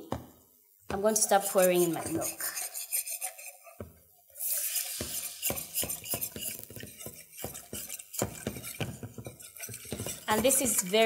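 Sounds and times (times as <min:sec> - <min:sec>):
metal utensil scraping a saucepan: 0:01.0 - 0:11.0
milk hissing in hot pan: 0:01.1 - 0:11.0.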